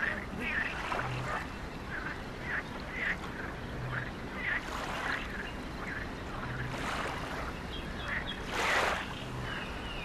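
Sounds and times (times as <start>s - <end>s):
ducks quacking: 0.0s - 9.7s
outdoor background noise: 0.0s - 10.0s.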